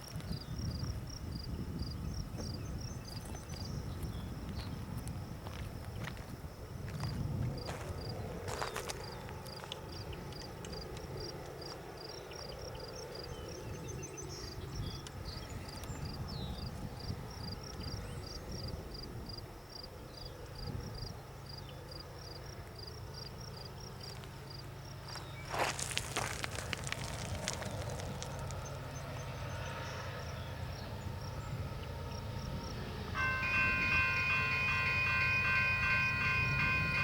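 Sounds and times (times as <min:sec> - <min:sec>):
insect chirping: 0:00.0 - 0:37.0.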